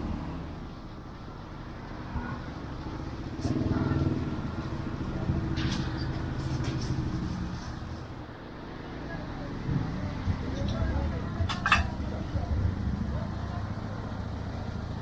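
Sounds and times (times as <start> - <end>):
vehicle engine running: 0.0 - 8.3, 8.9 - 15.0.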